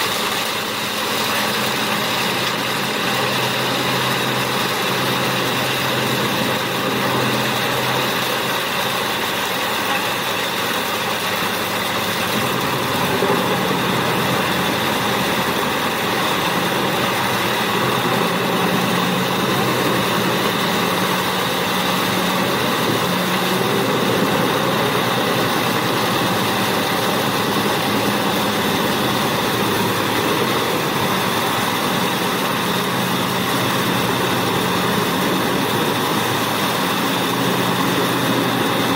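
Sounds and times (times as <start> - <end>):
grinding machinery rush: 0.0 - 38.9
wood chipper engine drone: 0.0 - 38.9.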